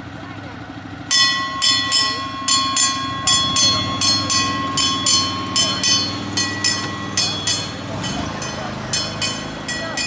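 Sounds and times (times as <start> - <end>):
low engine hum: 0.0 - 10.0
tram bell ringing: 1.1 - 10.0.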